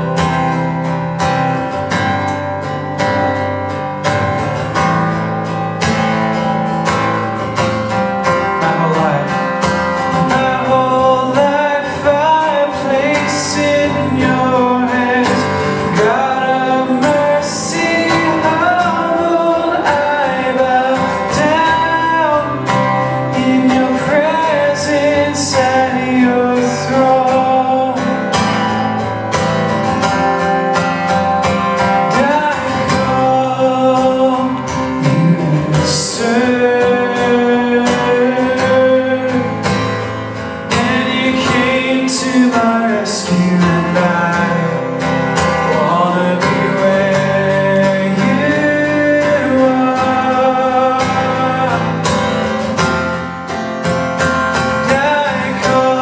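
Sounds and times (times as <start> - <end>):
acoustic guitar strumming: 0.0 - 56.0
man singing: 7.3 - 29.2, 30.2 - 53.5, 54.5 - 56.0.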